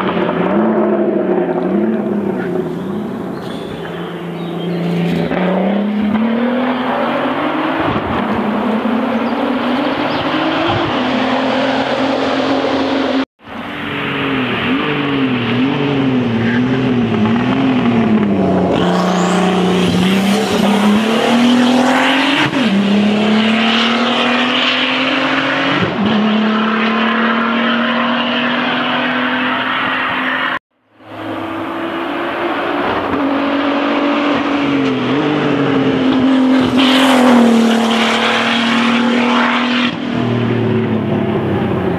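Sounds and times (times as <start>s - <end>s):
race car engine revving: 0.0s - 41.9s.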